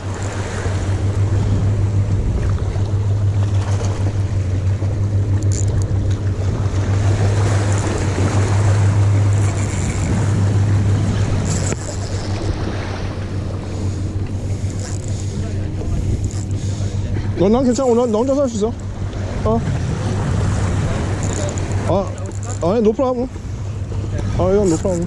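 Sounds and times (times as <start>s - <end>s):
sea waves washing against rocks: 0.0s - 25.0s
wind buffeting microphone: 0.0s - 25.0s.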